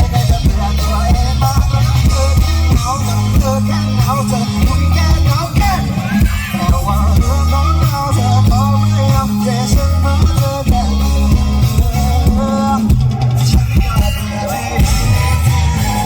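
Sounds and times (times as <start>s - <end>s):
drum kit beat: 0.0s - 16.0s
electric guitar: 0.0s - 16.0s
lead singer singing: 0.0s - 16.0s
sustained bass notes: 0.0s - 16.0s.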